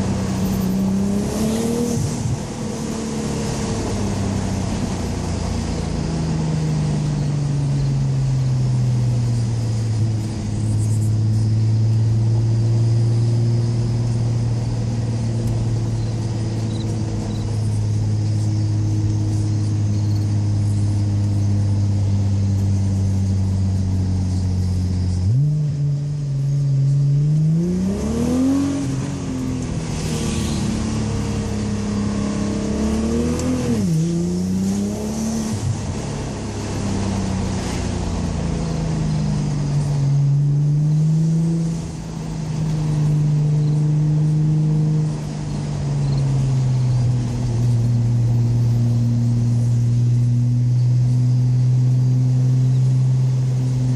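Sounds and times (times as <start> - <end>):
car engine accelerating: 0.0 - 53.9.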